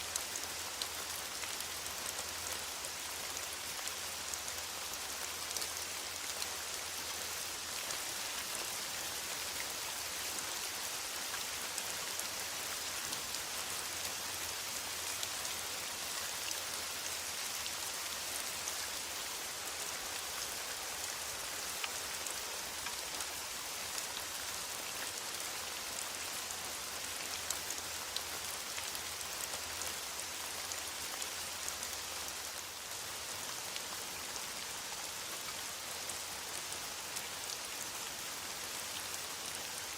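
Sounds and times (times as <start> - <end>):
rain hissing in a forest: 0.0 - 39.9.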